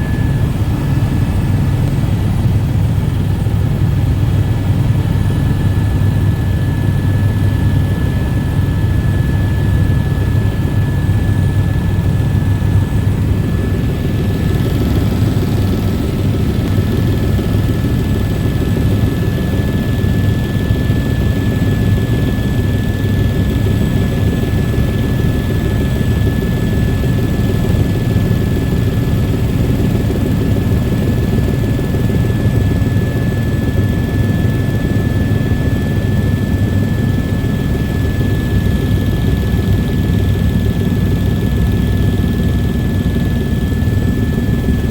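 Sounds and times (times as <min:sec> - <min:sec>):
helicopter rotor drone: 0:00.0 - 0:44.9.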